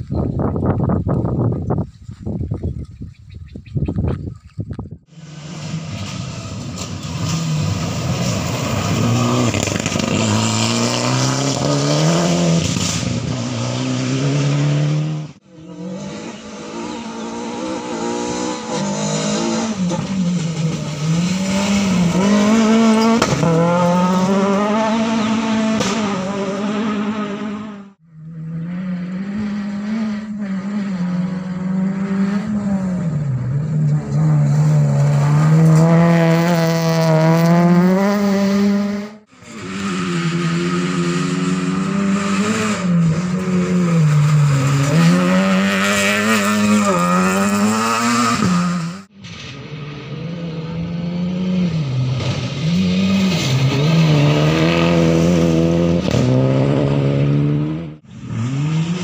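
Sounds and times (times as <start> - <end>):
rally car engines revving: 5.0 - 59.0.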